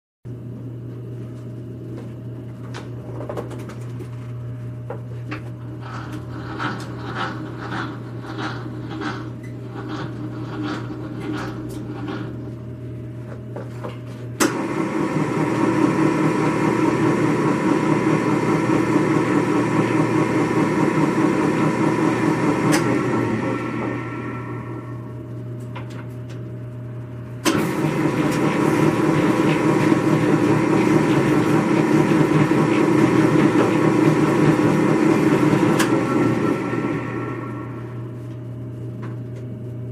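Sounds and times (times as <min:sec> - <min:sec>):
mixer motor and gear drone: 0:04.9 - 0:39.9.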